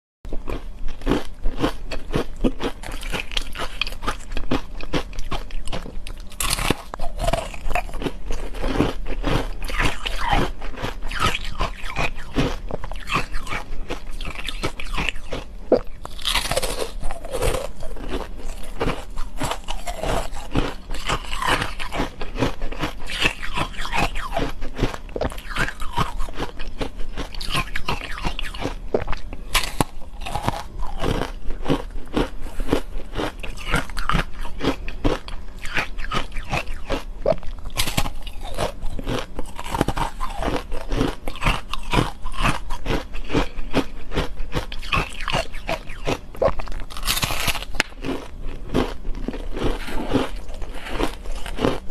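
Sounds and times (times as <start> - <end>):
crunchy ice bar chewing: 0.3 - 51.9
steady low hum: 0.3 - 51.9.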